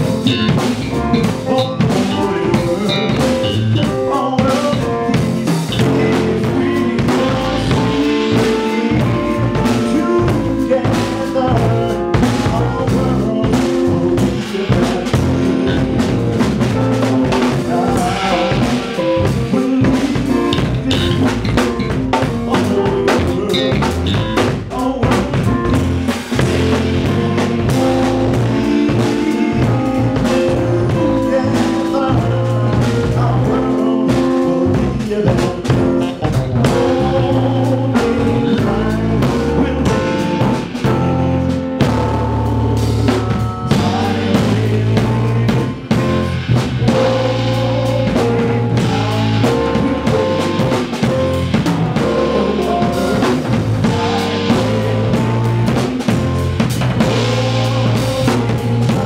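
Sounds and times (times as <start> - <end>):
jazz trio playing: 0.0 - 59.0.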